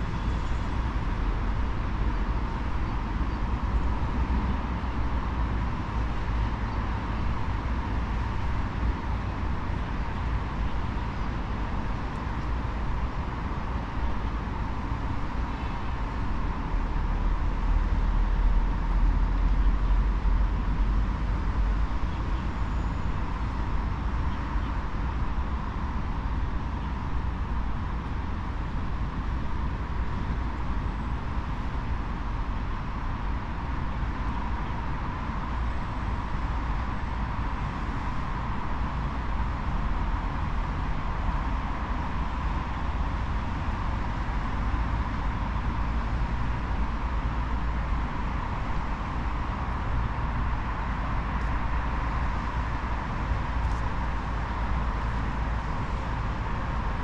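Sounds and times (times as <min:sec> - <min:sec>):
distant road traffic rumble: 0:00.0 - 0:57.0.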